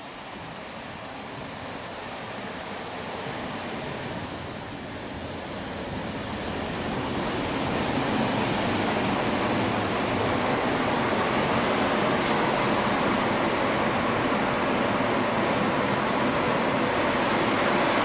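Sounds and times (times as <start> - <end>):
electric locomotive rushing noise: 0.0 - 18.0.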